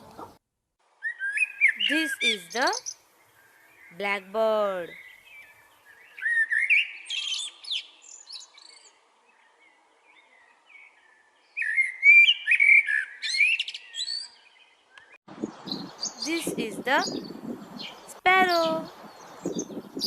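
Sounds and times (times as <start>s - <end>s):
blackbird singing: 1.0s - 20.0s.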